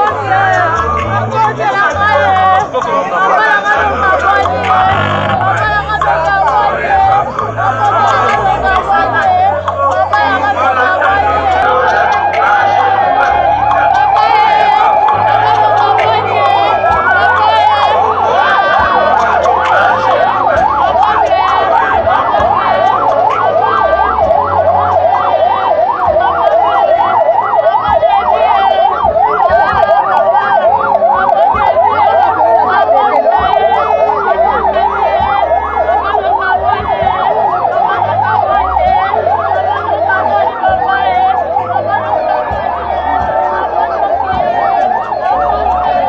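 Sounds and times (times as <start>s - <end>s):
crowd noise: 0.0s - 46.0s
sirens yelping and wailing: 0.0s - 46.0s.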